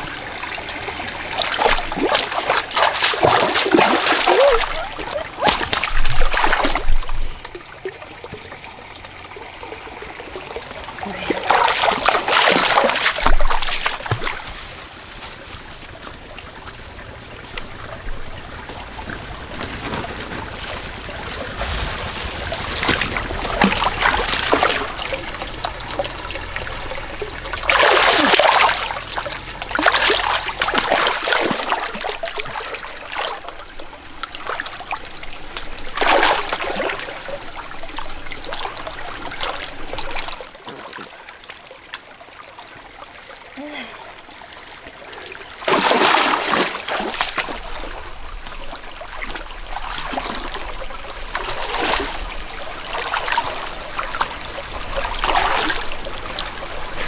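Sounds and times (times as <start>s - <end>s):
loud water splashes: 0.0s - 8.2s, 9.3s - 16.8s, 17.7s - 41.2s, 45.3s - 57.0s
muddy water stirred by hand: 0.0s - 57.0s.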